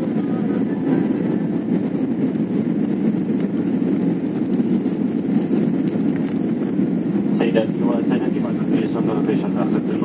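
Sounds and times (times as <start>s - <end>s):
jet engine and rushing air: 0.0s - 9.2s.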